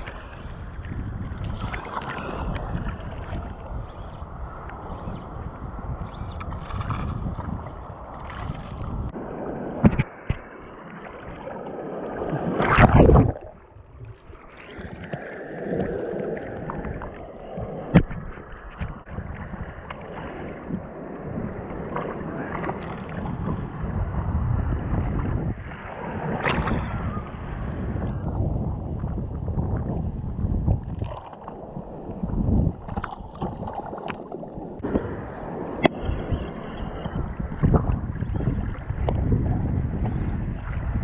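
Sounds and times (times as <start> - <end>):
wind buffeting microphone: 0.0 - 10.5, 12.2 - 41.0
surf washing and splashing: 0.0 - 41.0.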